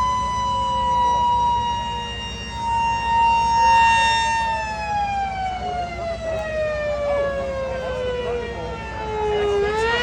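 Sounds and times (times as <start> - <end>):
siren winding down: 0.0 - 10.0.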